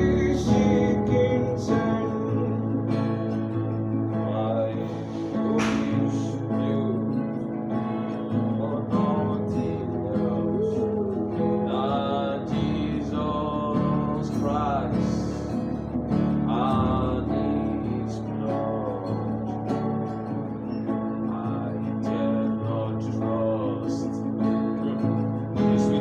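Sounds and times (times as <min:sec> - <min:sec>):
solo voice singing a hymn: 0:00.0 - 0:03.4, 0:04.1 - 0:15.8, 0:16.4 - 0:19.6, 0:21.2 - 0:25.0, 0:25.6 - 0:26.0
strummed acoustic guitar: 0:00.0 - 0:26.0.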